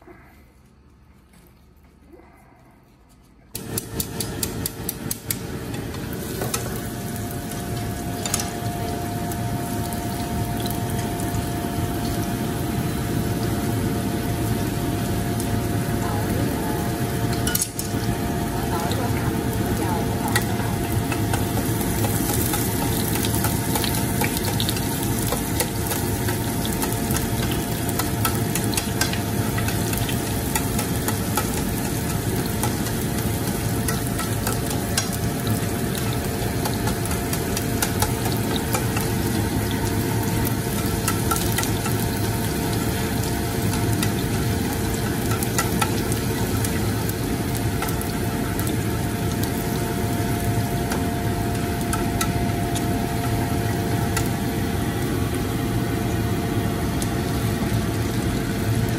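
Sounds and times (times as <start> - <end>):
food sizzling in oil: 3.6 - 58.9.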